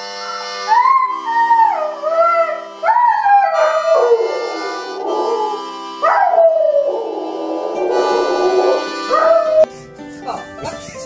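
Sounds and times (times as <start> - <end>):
dog howling: 0.7 - 9.7.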